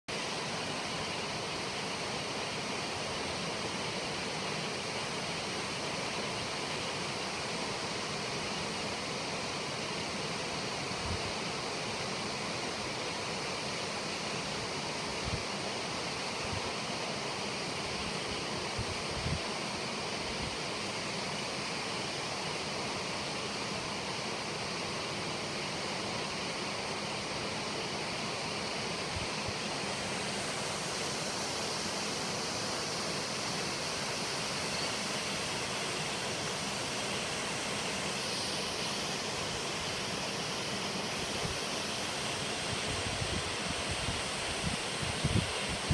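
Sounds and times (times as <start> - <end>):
waterfall rushing roar: 0.2 - 45.9.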